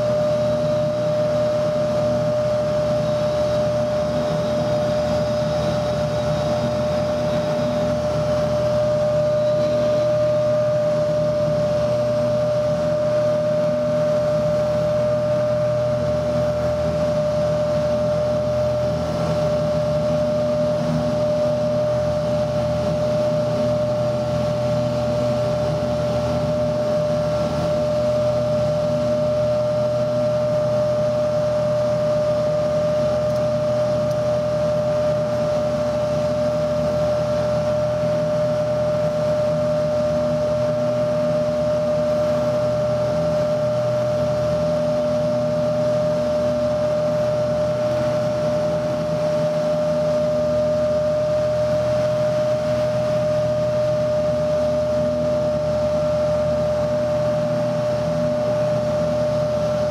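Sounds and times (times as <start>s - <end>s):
propeller aircraft engine in cabin: 0.0s - 59.9s.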